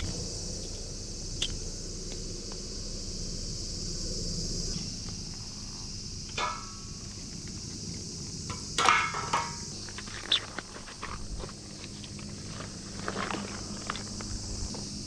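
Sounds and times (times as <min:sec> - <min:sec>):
steady high-pitched hiss: 0:00.0 - 0:15.0.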